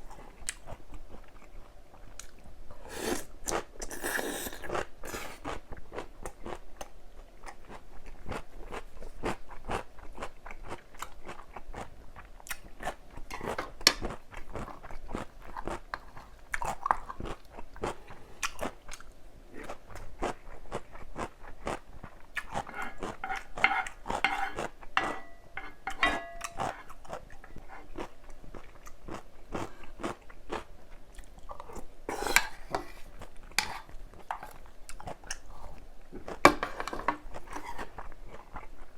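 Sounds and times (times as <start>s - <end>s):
chewing crunchy vegetables: 0.0s - 36.6s.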